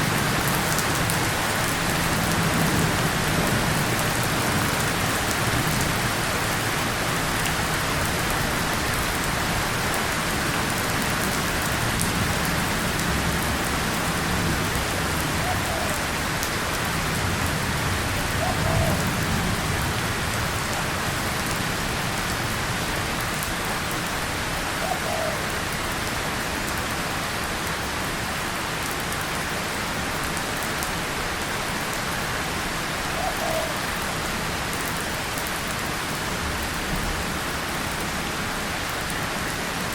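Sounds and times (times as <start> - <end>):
heavy rain on tin and leaves: 0.0 - 39.9.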